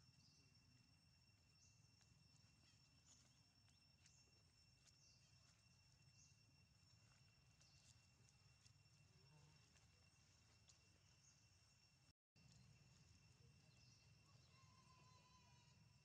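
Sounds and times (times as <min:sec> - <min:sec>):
faint high chirps and ticks: 0:00.0 - 0:16.0.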